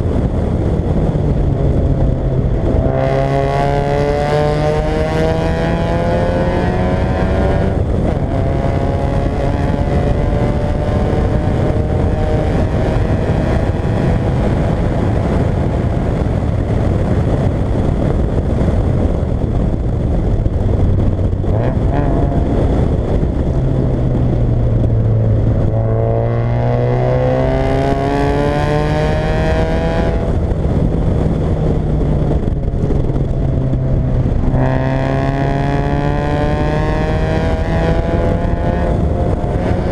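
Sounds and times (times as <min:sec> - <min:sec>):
car engine accelerating hard: 0:00.0 - 0:16.8, 0:20.4 - 0:39.9.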